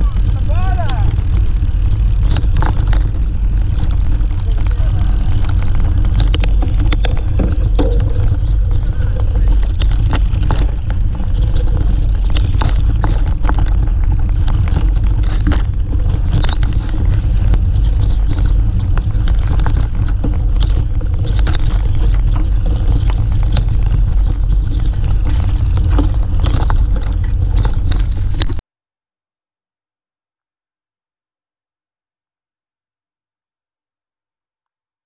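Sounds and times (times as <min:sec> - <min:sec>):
bike rattling and knocking: 0:00.0 - 0:28.6
wind and vibration on microphone: 0:00.0 - 0:28.6.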